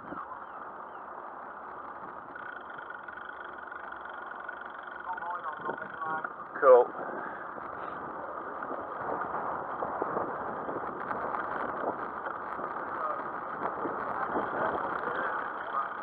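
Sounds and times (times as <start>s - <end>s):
bicycle rolling on tarmac: 0.0s - 16.0s
wind buffeting microphone: 0.0s - 16.0s.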